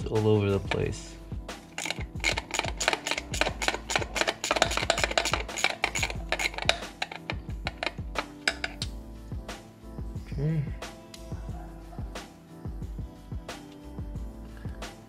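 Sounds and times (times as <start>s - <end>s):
music with clicky percussive beat: 0.0s - 15.0s.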